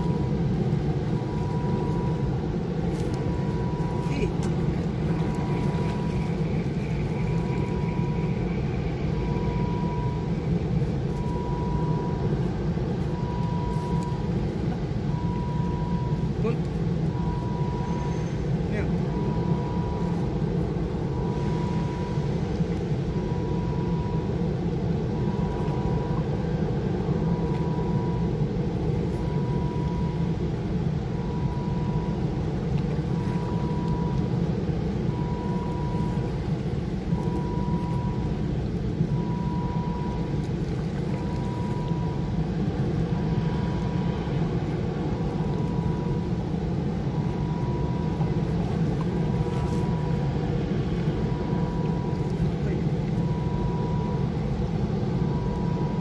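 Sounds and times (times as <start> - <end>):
faint high pulsing tone: 0.0 - 56.0
low mechanical drone: 0.0 - 56.0.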